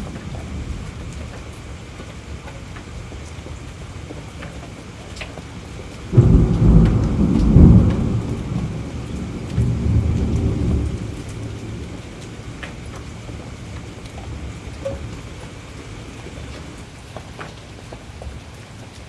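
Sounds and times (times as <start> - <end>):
thunderclap: 0.0 - 16.8
steady rain: 0.0 - 19.0.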